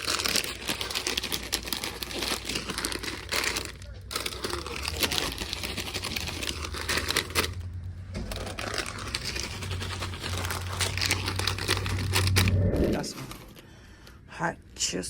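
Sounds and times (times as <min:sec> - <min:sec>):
plastic snack bags crackling: 0:00.0 - 0:13.7.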